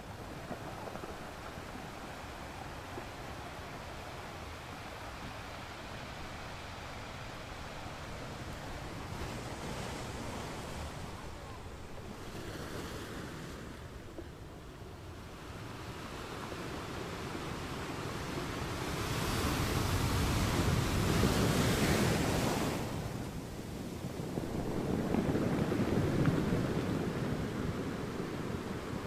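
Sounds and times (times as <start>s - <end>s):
sea waves washing: 0.0s - 29.0s
wind: 0.0s - 29.0s.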